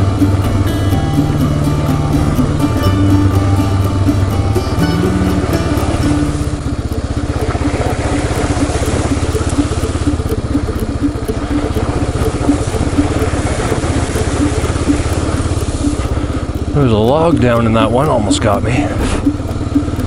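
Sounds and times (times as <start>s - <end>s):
motorcycle engine running: 0.0s - 20.0s
water spraying from tyres: 0.0s - 20.0s.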